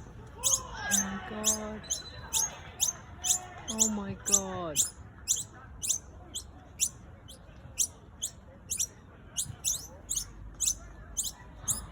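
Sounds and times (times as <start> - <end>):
baby birds squealing: 0.4 - 11.9.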